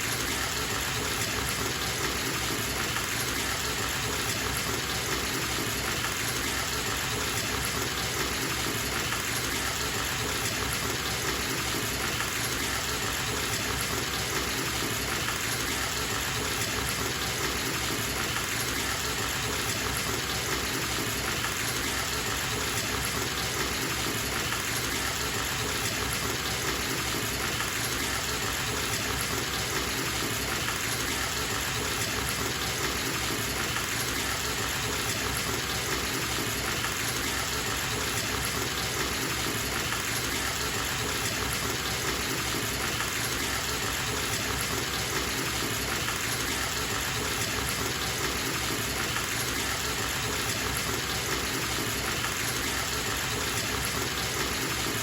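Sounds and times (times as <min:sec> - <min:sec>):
tap water gushing into bathtub: 0:00.1 - 0:55.0.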